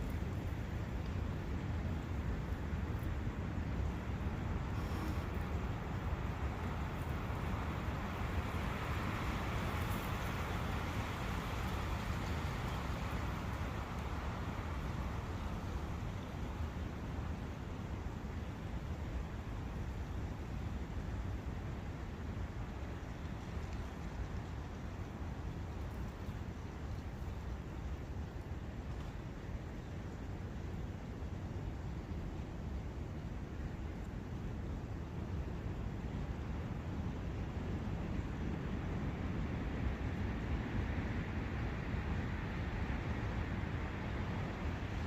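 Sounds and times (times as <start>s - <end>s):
brook running water: 0.0s - 45.0s
wind noise with low rumble: 0.0s - 45.0s.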